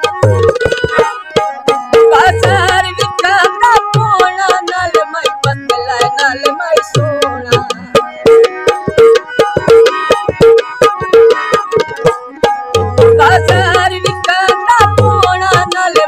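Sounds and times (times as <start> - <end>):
harmonium chords: 0.0 - 16.0
tabla bass drum: 0.0 - 16.0
tabla playing: 0.0 - 16.0.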